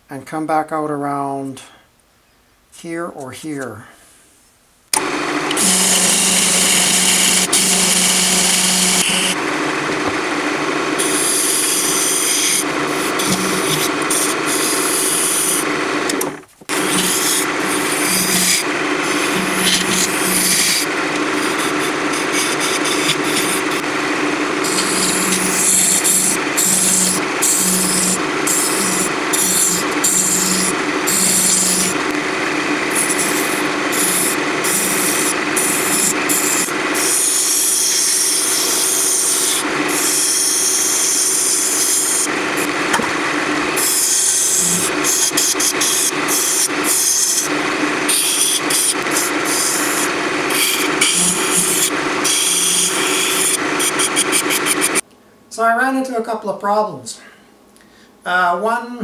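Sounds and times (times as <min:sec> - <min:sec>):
turning tool scraping wood: 0:05.0 - 0:10.2, 0:11.0 - 0:55.0
lathe motor hum: 0:05.0 - 0:55.0.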